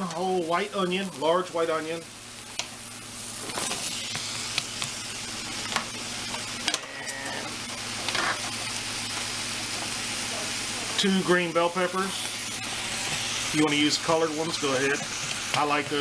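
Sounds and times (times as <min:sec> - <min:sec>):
onion sizzling in hot fat: 0:00.0 - 0:16.0.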